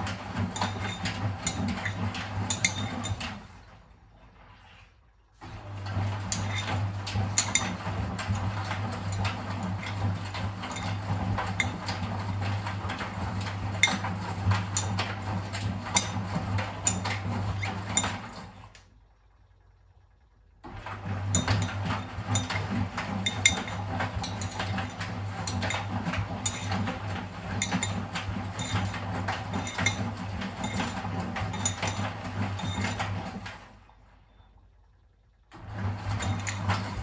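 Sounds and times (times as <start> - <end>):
clinking and knocking of laundry load: 0.0 - 3.9, 5.4 - 18.7, 20.7 - 33.8, 35.6 - 37.0
washing machine motor humming: 0.0 - 37.0.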